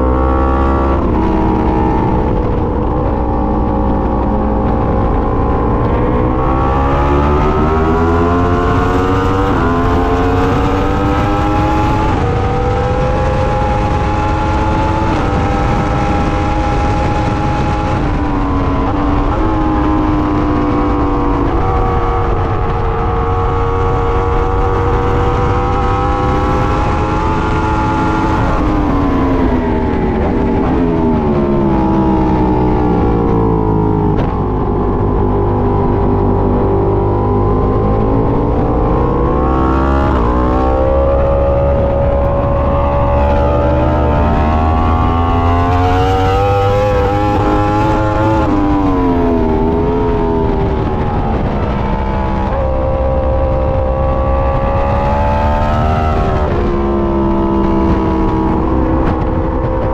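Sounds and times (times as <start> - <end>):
heavy wind rush: 0.0 - 59.9
motorcycle engine under hard throttle: 0.0 - 59.9.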